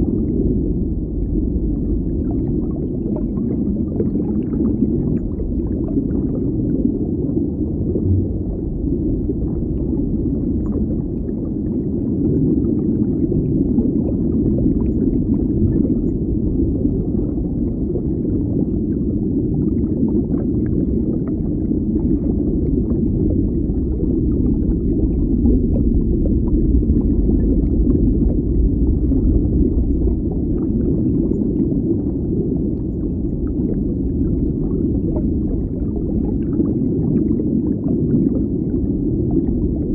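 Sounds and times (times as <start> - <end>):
muffled underwater rush of water: 0.0 - 39.9.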